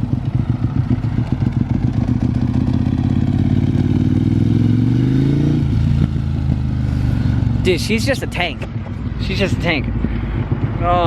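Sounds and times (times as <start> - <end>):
motorcycle engine exhaust: 0.0 - 11.0.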